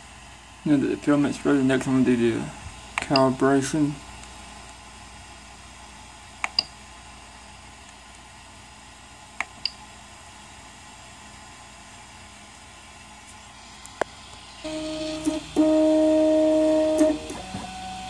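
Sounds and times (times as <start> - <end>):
printer fan noise: 0.0 - 18.0.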